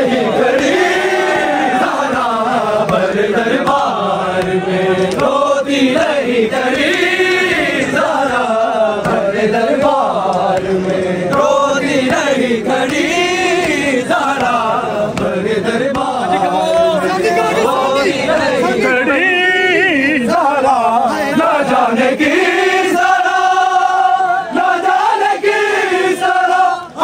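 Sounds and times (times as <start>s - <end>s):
men chanting a lament: 0.0s - 27.0s.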